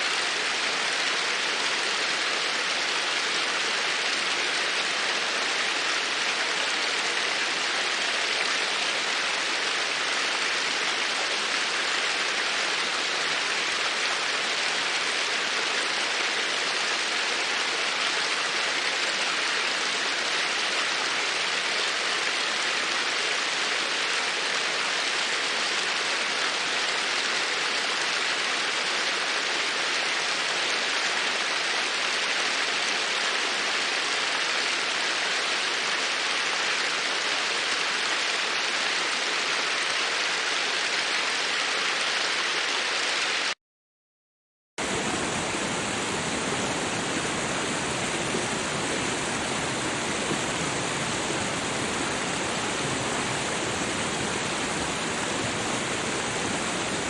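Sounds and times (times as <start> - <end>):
water rushing: 0.0 - 43.6, 44.8 - 57.0.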